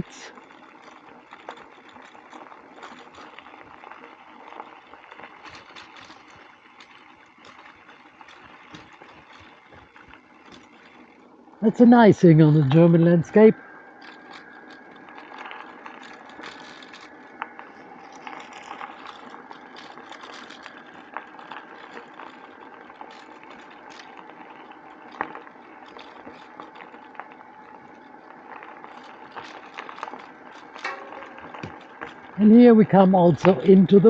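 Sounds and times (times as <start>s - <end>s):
bicycle clicks and rattles: 0.0s - 11.6s, 13.6s - 32.8s
bicycle tyres rolling: 0.0s - 34.0s.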